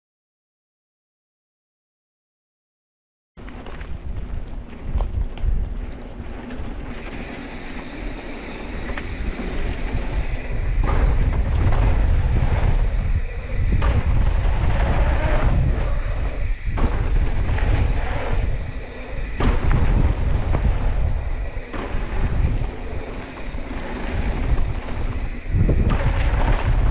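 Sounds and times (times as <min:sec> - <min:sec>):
bike rumbling over dirt: 0:03.4 - 0:26.9
wind buffeting microphone: 0:03.4 - 0:26.9.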